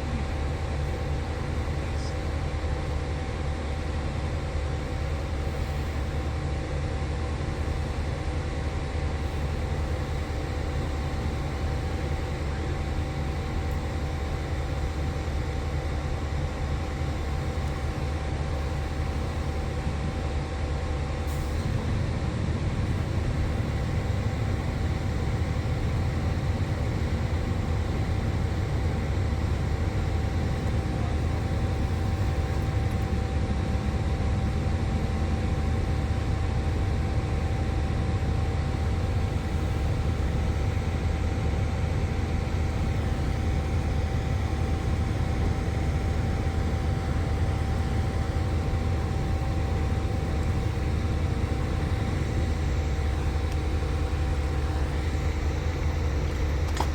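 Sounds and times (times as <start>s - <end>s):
vehicle engine rumble: 0.0s - 37.0s, 41.9s - 56.9s
faint whine: 0.0s - 56.9s.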